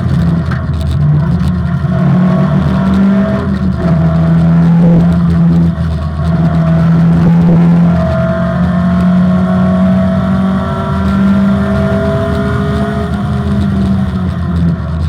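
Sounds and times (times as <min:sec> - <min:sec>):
car engine revving high: 0:00.0 - 0:15.0.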